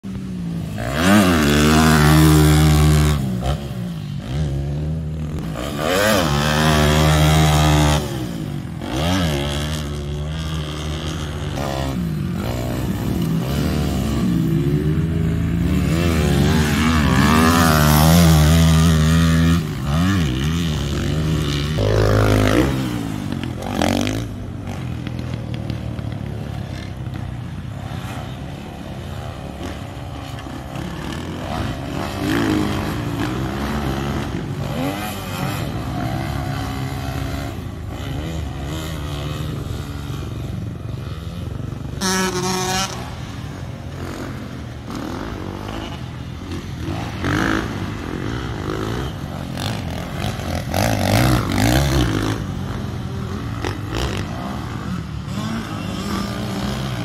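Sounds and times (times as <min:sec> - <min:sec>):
motorbike engine revving: 0:00.6 - 0:57.0.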